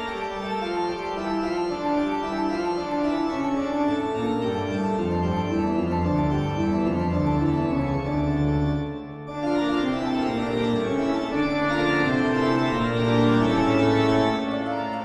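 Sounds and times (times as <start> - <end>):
slow organ chords: 0.0 - 15.0.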